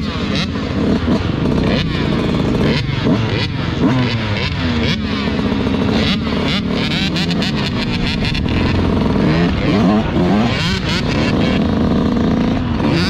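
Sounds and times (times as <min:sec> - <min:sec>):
other dirt bike revving: 0:00.0 - 0:13.0
two-stroke engine revving: 0:00.0 - 0:13.0.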